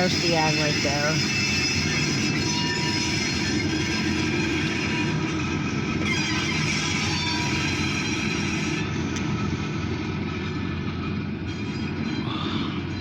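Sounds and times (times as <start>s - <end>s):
freight train rolling on rails: 0.0s - 13.0s.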